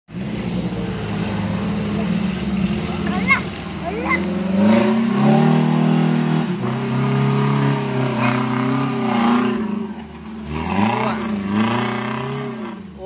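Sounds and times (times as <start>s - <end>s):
off-road engine revving hard: 0.1s - 13.0s.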